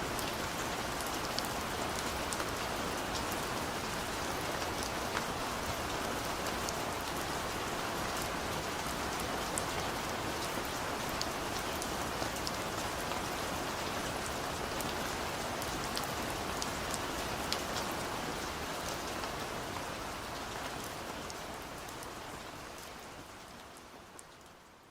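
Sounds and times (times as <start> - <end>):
heavy rain falling: 0.0 - 23.7.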